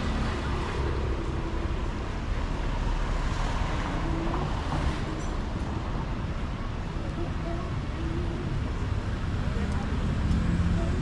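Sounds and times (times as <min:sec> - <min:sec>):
surf and traffic roar: 0:00.0 - 0:11.0.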